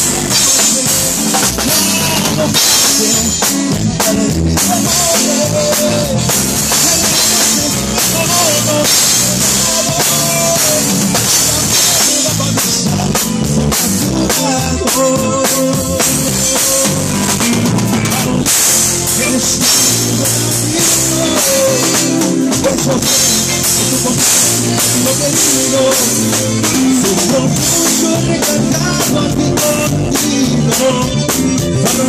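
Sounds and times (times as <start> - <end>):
drum kit with cymbal hits: 0.0 - 32.0
live band playing instrumental: 0.0 - 32.0.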